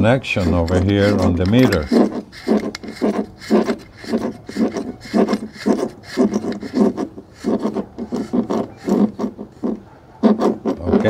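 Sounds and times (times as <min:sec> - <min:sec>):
connector nut rasping as twisted: 0:00.0 - 0:11.0.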